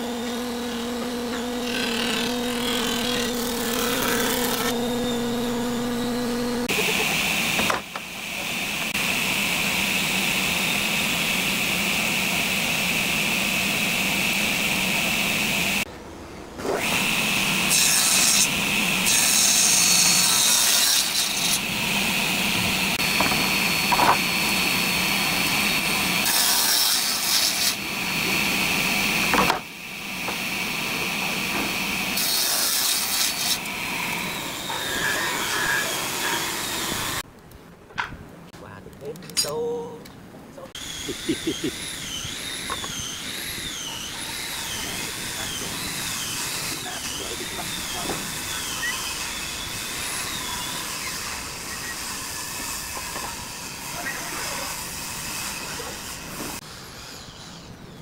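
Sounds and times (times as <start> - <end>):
circular saw cutting wood: 0.0 - 15.9, 16.6 - 37.2, 40.7 - 58.0.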